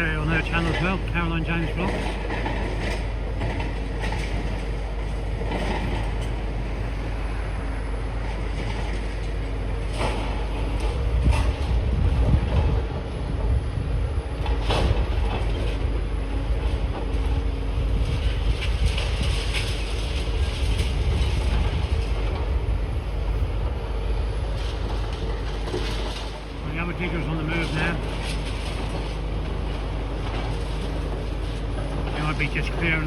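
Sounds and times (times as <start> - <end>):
excavator diesel engines rumbling: 0.0 - 33.0.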